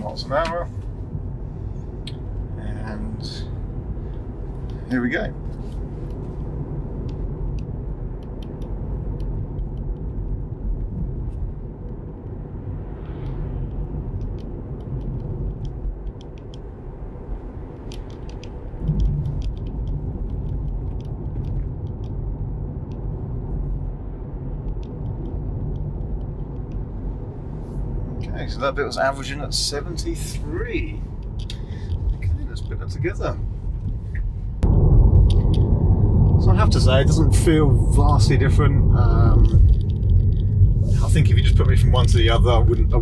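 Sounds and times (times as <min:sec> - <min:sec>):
road and tyre noise in car cabin: 0:00.0 - 0:43.0.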